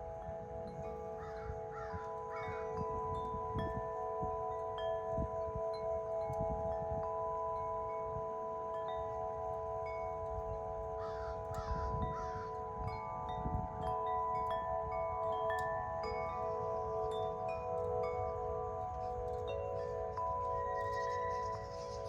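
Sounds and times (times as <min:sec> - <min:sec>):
wind chimes ringing: 0:00.0 - 0:22.0
wind on microphone: 0:00.0 - 0:22.0.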